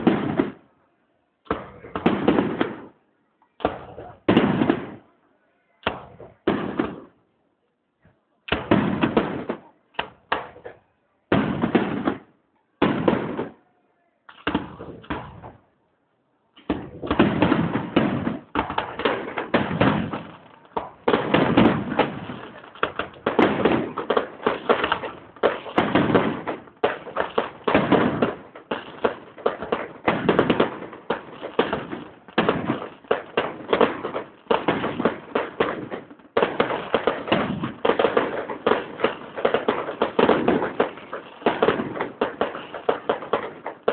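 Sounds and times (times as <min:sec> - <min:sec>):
fireworks bangs and crackling: 0:00.0 - 0:00.7, 0:01.4 - 0:05.2, 0:05.8 - 0:07.3, 0:08.4 - 0:15.8, 0:16.6 - 0:43.9.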